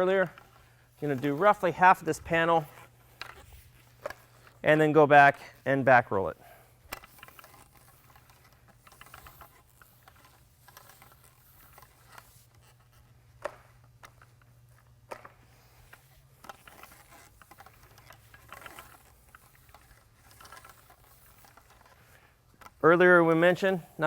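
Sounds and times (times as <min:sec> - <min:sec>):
paint roller sticky patter: 0:00.0 - 0:24.0.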